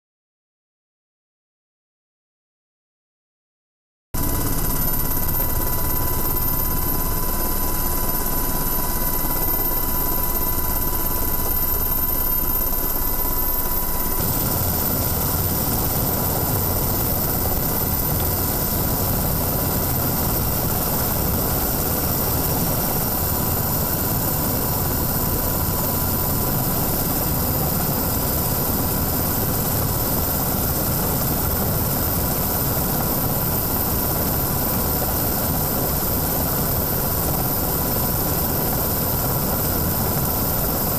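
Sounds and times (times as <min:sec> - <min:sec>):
aircraft engine and airflow noise: 0:04.2 - 0:40.9
thin constant tone: 0:04.2 - 0:40.9.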